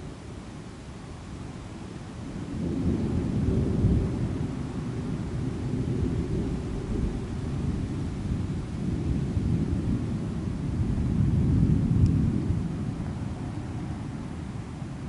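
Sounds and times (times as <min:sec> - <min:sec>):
thunder rumbling: 0:02.4 - 0:14.9.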